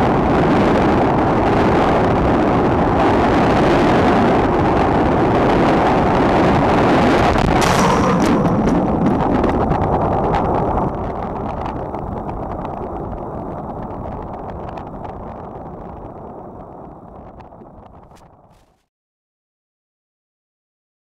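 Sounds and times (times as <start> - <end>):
wind rushing over microphone: 0.0 - 18.8
crackles: 0.0 - 18.9.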